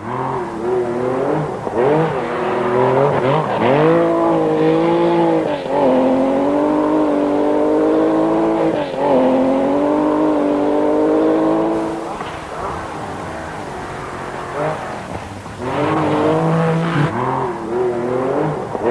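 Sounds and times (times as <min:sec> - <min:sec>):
car engine at high revs: 0:00.0 - 0:18.9.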